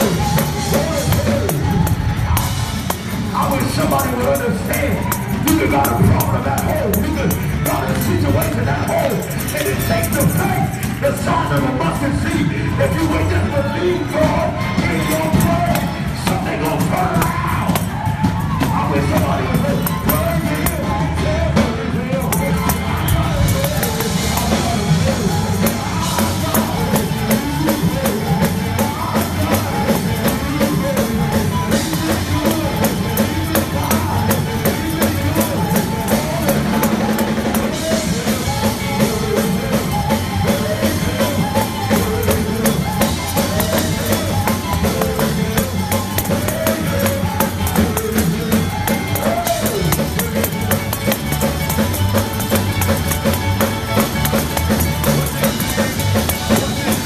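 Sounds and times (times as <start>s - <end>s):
person singing: 0.0s - 57.0s
praise band playing: 0.0s - 57.0s.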